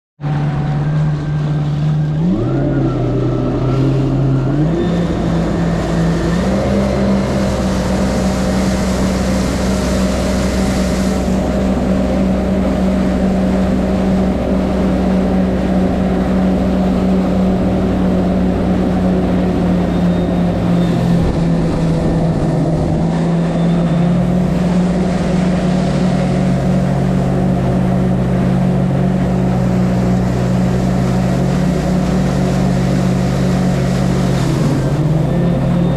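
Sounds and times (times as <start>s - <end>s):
jet ski engine running: 0.2s - 35.9s.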